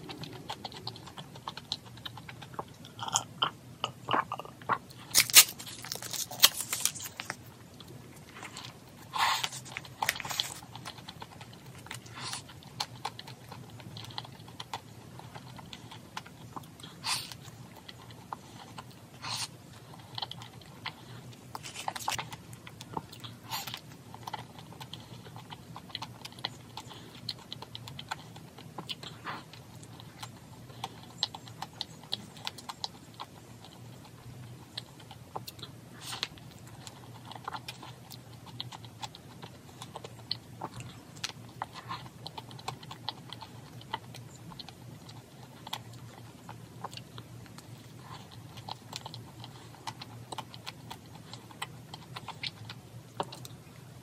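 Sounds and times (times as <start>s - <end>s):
chewing with small clicks: 0.0s - 54.0s
steady low hum: 0.0s - 54.0s.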